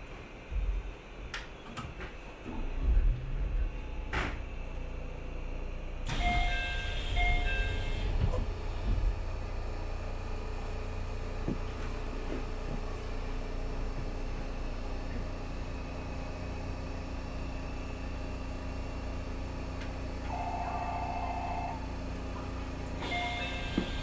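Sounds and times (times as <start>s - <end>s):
electric train rumble: 0.0s - 24.0s
steady hum: 0.0s - 24.0s.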